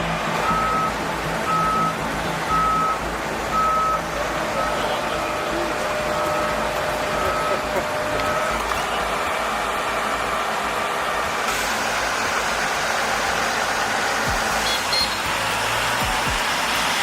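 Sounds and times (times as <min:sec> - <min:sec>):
heavy construction machinery running: 0:00.0 - 0:17.0.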